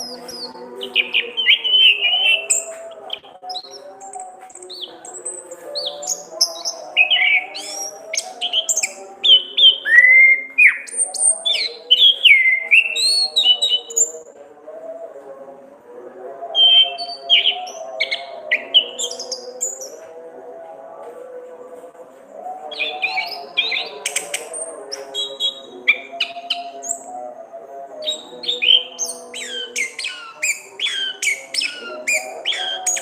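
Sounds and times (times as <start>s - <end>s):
thrush singing whistled phrases: 0.0s - 14.3s, 16.6s - 20.0s, 22.7s - 27.1s, 28.0s - 33.0s.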